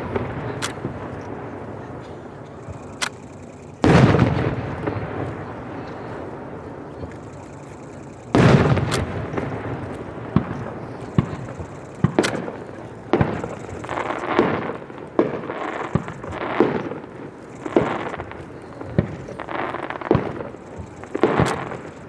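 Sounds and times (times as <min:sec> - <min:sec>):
firework rumble: 0:00.0 - 0:22.0
firework sharp cracks echoing: 0:00.0 - 0:22.0.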